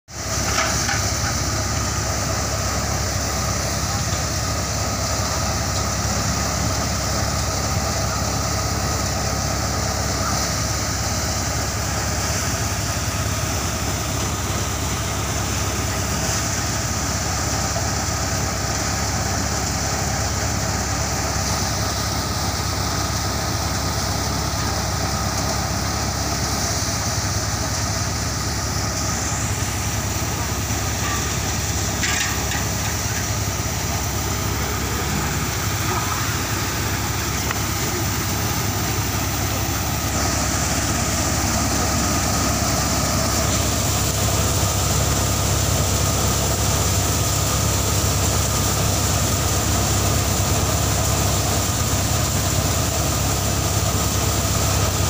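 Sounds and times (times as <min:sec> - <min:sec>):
drum thresher running: 0:00.1 - 0:55.0.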